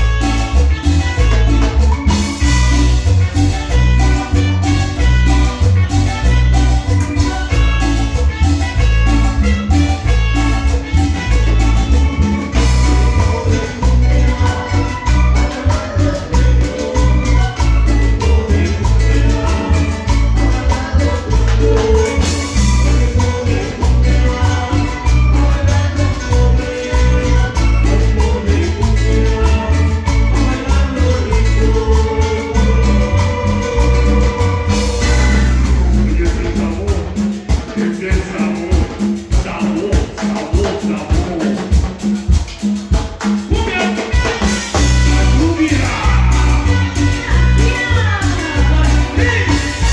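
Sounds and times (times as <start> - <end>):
cumbia band music: 0.0 - 49.9.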